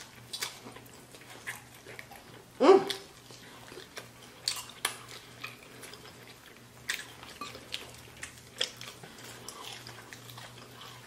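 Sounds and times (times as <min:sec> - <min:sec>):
crisp crunches of chewing: 0:00.0 - 0:11.0.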